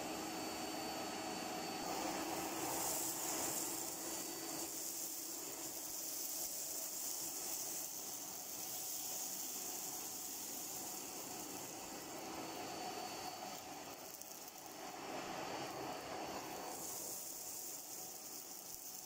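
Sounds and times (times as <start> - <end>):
faint steady motor tone: 0.0 - 19.0
vacuum cleaner running: 0.0 - 19.0.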